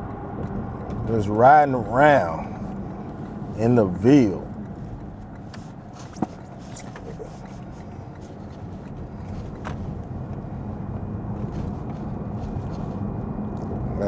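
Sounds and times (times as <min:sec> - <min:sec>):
road and tyre noise in car cabin: 0:00.0 - 0:14.0.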